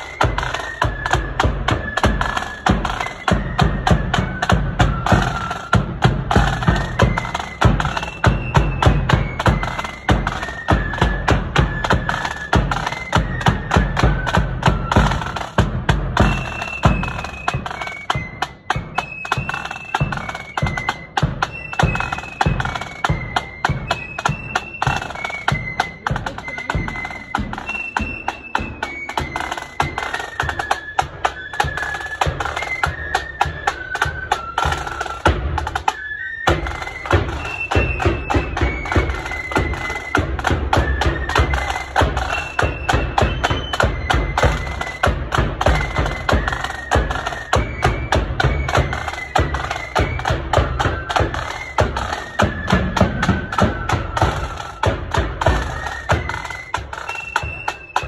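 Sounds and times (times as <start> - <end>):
flute band playing: 0.0 - 58.0
side drum rolls: 0.0 - 58.0.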